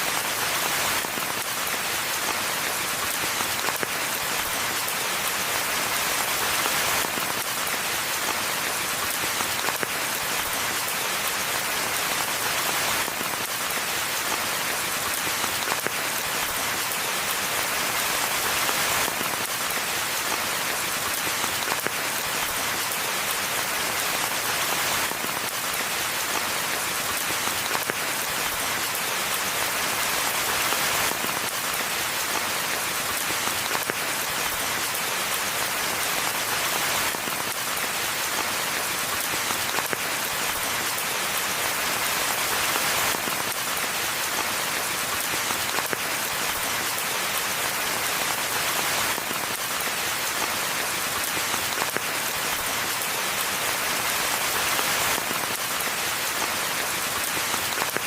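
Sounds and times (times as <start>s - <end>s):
rain falling in a forest: 0.0s - 58.0s.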